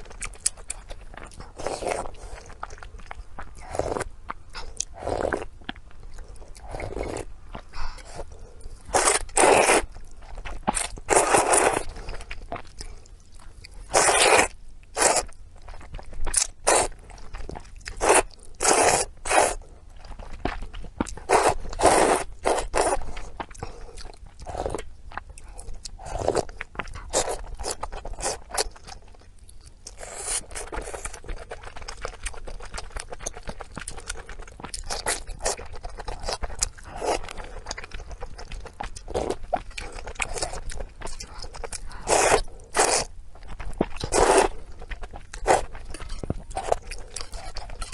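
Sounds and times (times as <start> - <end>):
person chewing and biting: 0.1 - 47.9.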